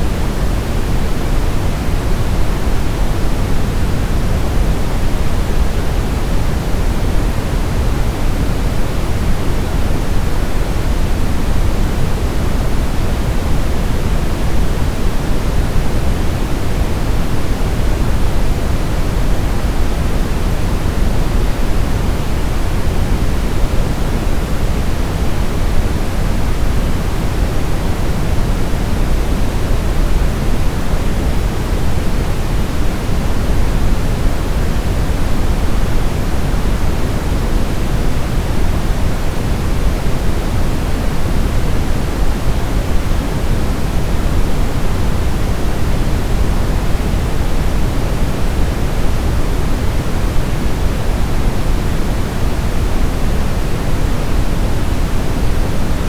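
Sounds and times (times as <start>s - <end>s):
deep soft white noise: 0.0s - 56.0s.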